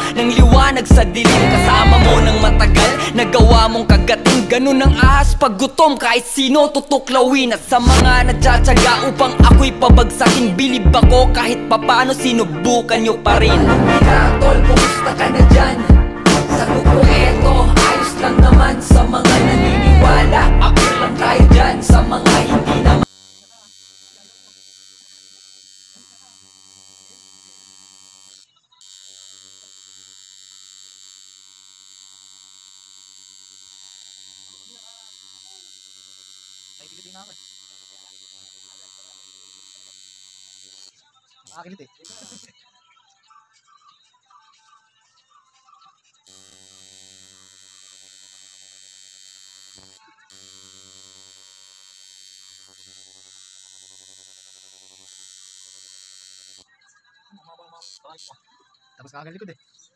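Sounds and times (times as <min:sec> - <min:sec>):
tattoo machine buzzing: 0:00.0 - 0:58.5.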